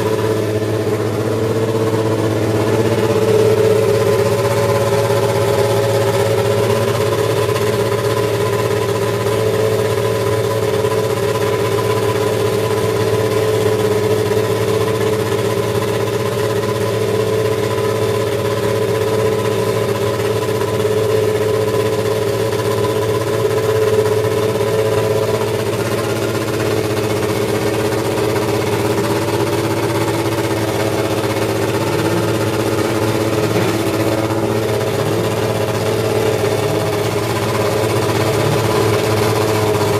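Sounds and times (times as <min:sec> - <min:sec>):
racing car engine idling: 0:00.0 - 0:39.9.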